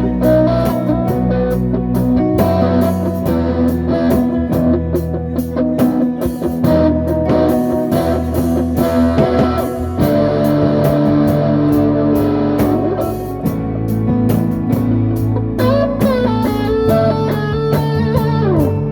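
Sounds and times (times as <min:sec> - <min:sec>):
electric guitar: 0:00.0 - 0:18.9
sustained bass notes: 0:00.0 - 0:18.9.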